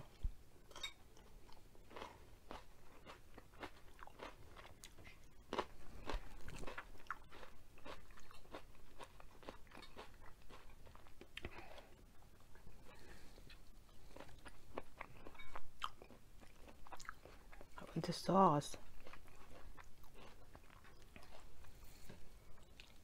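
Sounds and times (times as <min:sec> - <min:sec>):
crunchy chewing of pepper: 0:01.2 - 0:17.9, 0:18.8 - 0:23.0.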